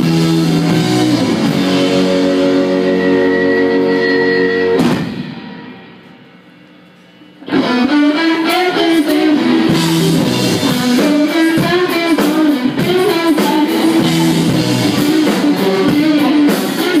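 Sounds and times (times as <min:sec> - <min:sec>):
rock band playing loudly: 0:00.0 - 0:06.4, 0:07.4 - 0:17.0
electric guitar riff: 0:00.0 - 0:06.5, 0:07.4 - 0:17.0.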